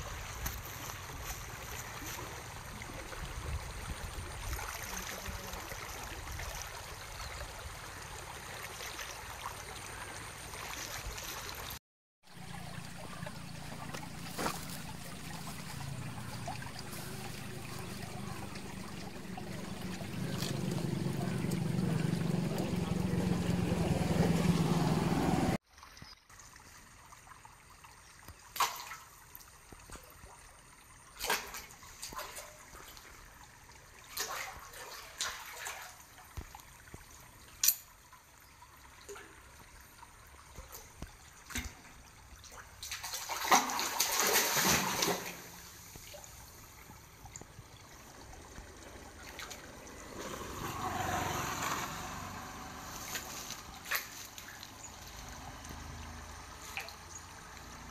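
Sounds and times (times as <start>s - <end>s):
water trickling and lapping: 0.0s - 57.9s.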